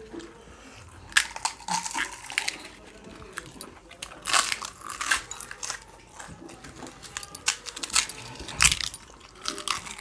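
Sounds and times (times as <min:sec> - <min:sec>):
crisp shells crunching: 0:01.1 - 0:10.0.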